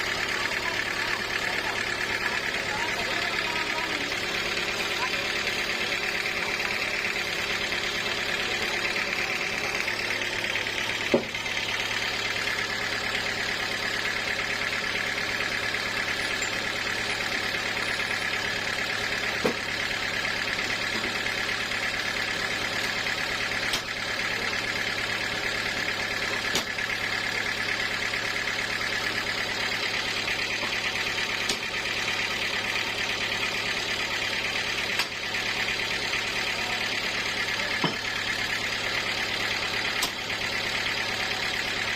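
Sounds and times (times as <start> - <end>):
sawmill machinery running: 0.0 - 41.9.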